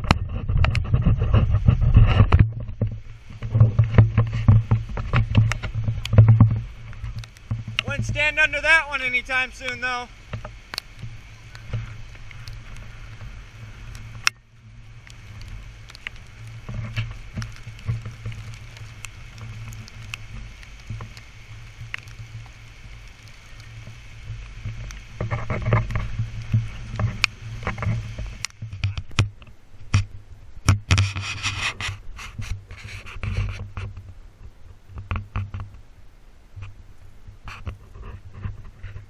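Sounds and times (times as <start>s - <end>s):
wind rumble on microphone: 0.0s - 39.0s.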